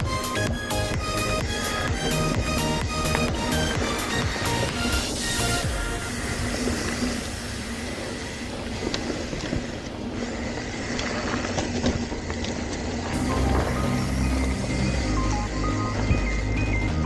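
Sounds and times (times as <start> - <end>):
bike rumble and rattle: 0.0 - 17.0.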